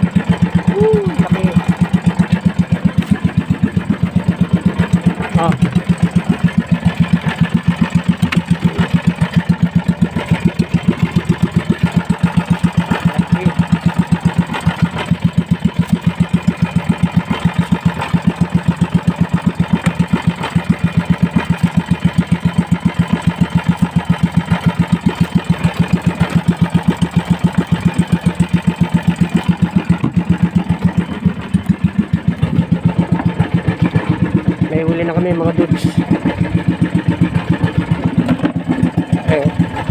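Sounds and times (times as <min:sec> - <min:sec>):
boat engine putter: 0:00.0 - 0:39.9.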